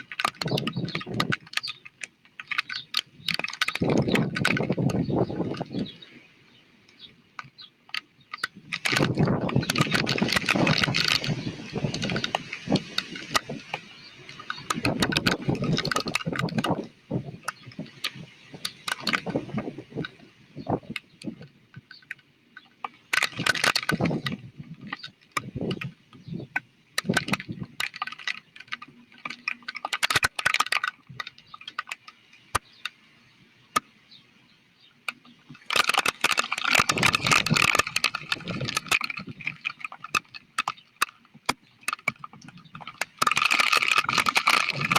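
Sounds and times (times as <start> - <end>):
gusts of wind and rain: 0.0 - 1.8, 2.4 - 7.5, 8.2 - 44.9
sharp crackling clicks: 0.0 - 6.0, 6.9 - 34.2, 34.8 - 44.9.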